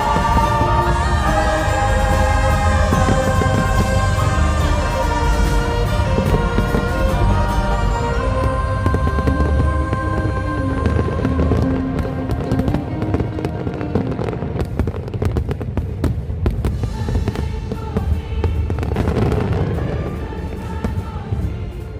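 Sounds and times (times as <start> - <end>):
music playing: 0.0 - 15.4, 16.6 - 21.9
fireworks crackling and popping: 0.0 - 21.9
low rumble of firework bursts: 0.0 - 21.9.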